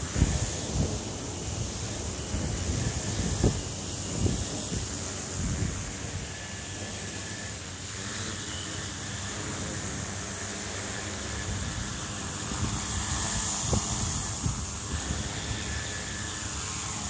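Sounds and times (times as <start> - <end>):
drone propeller whir: 0.0 - 17.0.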